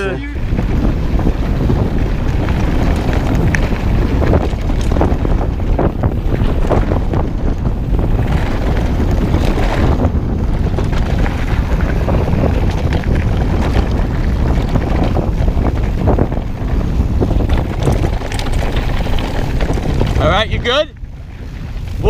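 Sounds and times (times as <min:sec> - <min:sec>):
bike rattles and knocks: 0:00.0 - 0:22.0
steady rumble: 0:00.0 - 0:22.0
wind buffeting microphone: 0:00.0 - 0:22.0.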